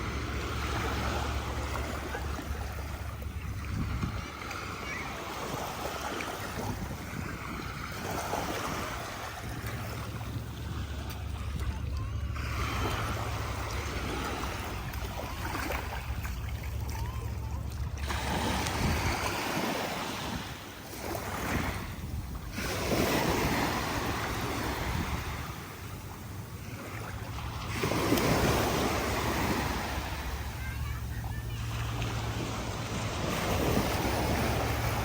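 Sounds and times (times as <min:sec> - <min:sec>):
sea waves washing onto beach: 0:00.0 - 0:35.0
wind rumbling on microphone: 0:00.0 - 0:35.0.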